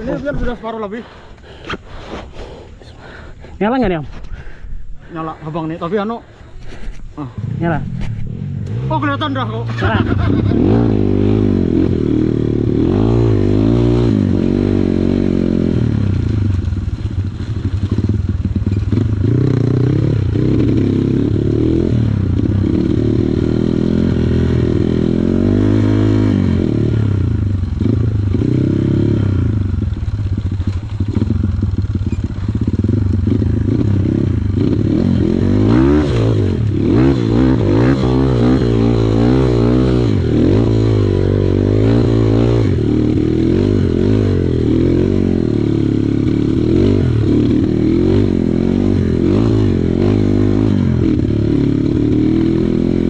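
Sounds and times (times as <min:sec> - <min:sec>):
trail bike engine revving: 0:07.2 - 0:53.0.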